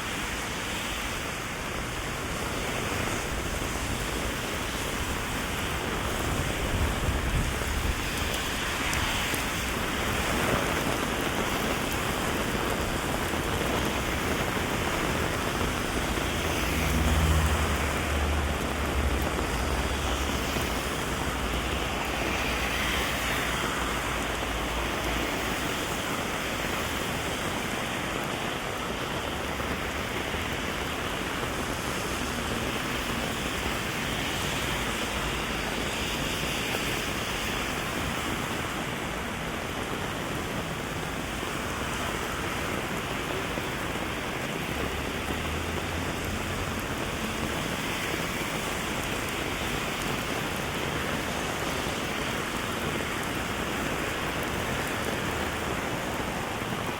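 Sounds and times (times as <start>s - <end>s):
heavy rain on an umbrella: 0.0s - 56.9s.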